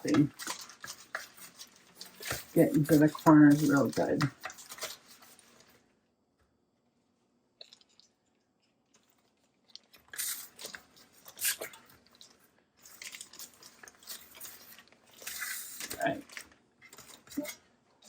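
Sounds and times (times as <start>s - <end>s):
paper wrapper crinkling on pan: 0.0s - 5.9s, 8.6s - 18.0s.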